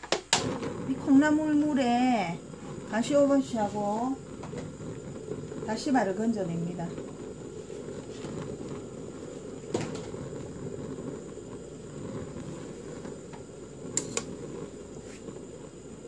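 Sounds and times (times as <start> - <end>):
low background rumble: 0.4 - 16.0.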